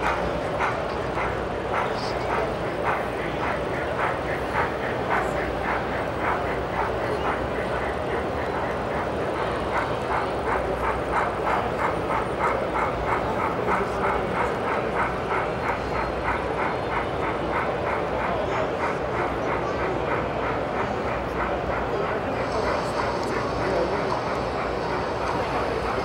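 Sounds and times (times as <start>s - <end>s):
model steam locomotive chuffing: 0.0s - 26.0s.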